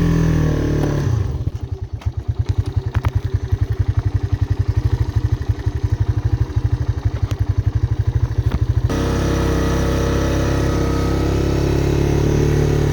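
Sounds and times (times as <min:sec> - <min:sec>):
single-cylinder engine running: 0:00.0 - 0:12.9.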